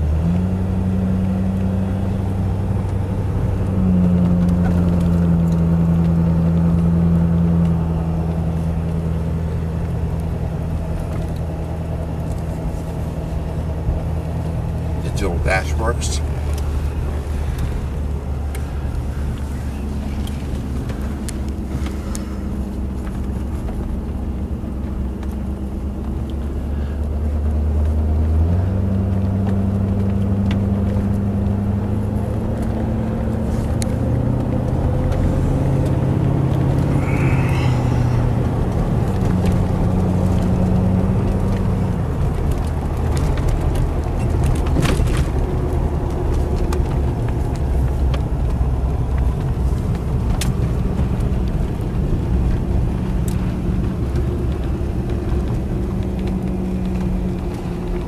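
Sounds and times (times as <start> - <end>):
car engine hum: 0.0 - 58.0
road noise: 0.0 - 58.0.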